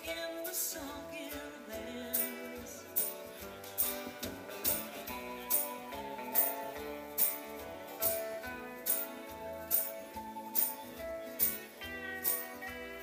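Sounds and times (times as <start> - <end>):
electric guitar melody: 0.0 - 13.0
strummed acoustic guitar: 0.0 - 13.0.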